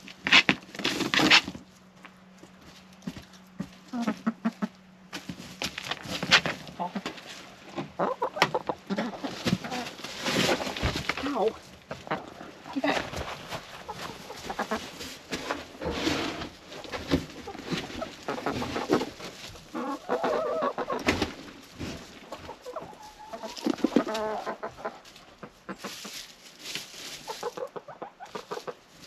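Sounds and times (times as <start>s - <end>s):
hens clucking: 2.4s - 5.3s, 6.2s - 29.0s.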